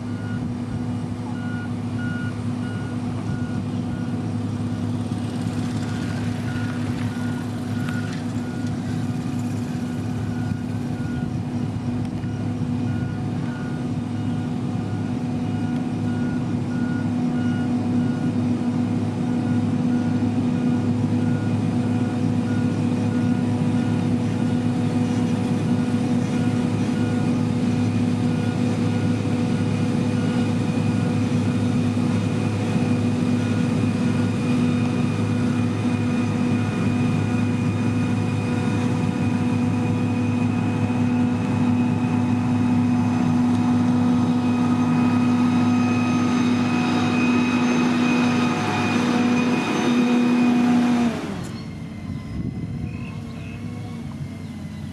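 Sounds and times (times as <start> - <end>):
reversing alarm beeping: 0.0 - 0.6, 1.3 - 53.8
diesel machine engine running: 0.0 - 54.9.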